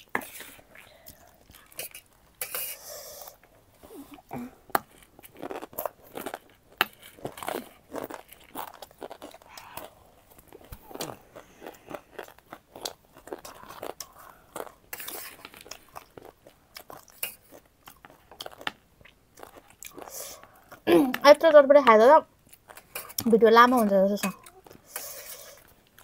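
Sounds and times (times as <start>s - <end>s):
person chewing crunchy food: 0.0s - 20.9s, 22.4s - 23.3s, 24.4s - 26.0s.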